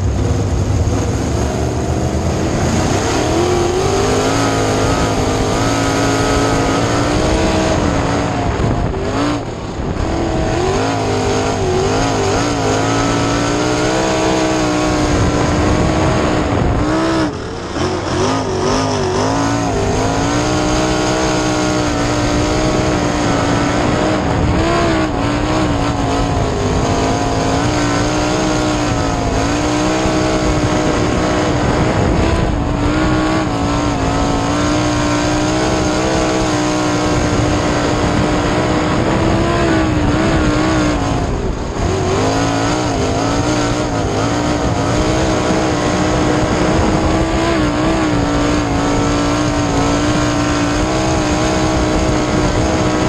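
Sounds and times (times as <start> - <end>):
racing car engine: 0.0 - 53.0.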